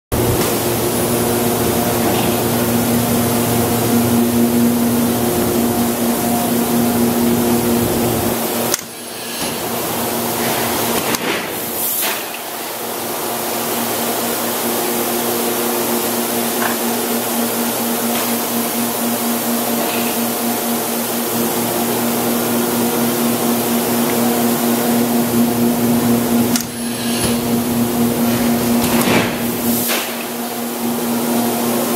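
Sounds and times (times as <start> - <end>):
machine electrical hum: 0.1 - 31.9.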